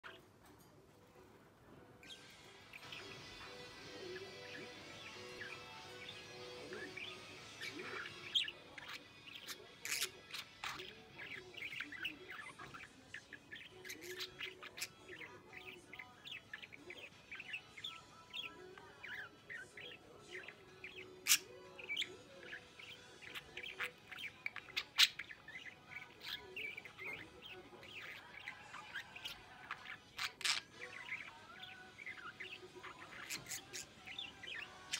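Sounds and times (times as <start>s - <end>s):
budgerigar warbling and chattering: 2.0s - 34.9s.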